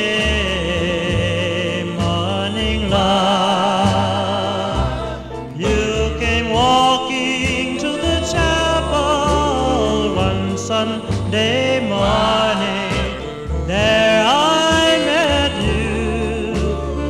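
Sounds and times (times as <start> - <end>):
song with wavering melody: 0.4 - 17.0.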